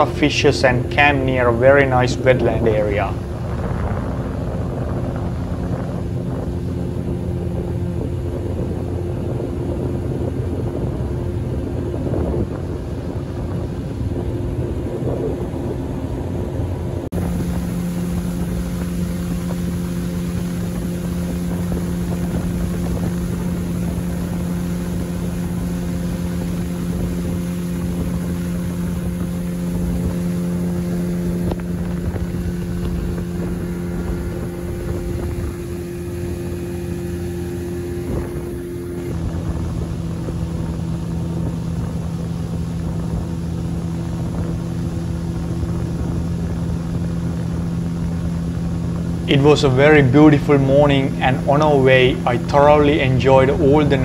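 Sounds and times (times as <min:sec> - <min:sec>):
outboard motor droning: 0:00.0 - 0:54.0
rushing water: 0:00.0 - 0:54.0
wind on microphone: 0:00.0 - 0:54.0.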